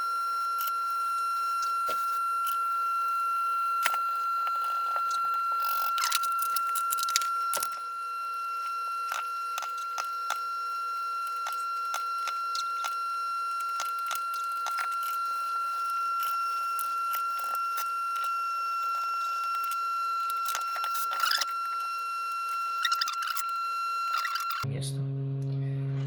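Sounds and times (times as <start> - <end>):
high-pitched electronic whine: 0.0 - 26.0.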